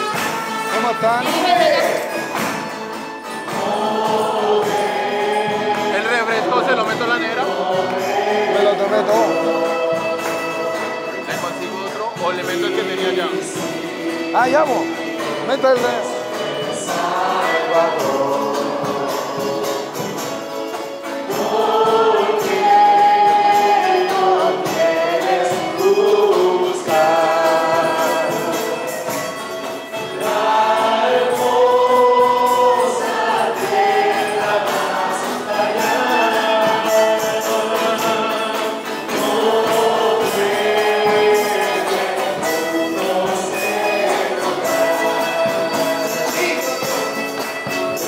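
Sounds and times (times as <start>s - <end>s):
instrumental backing: 0.0s - 48.0s
group singing gospel song: 1.3s - 48.0s.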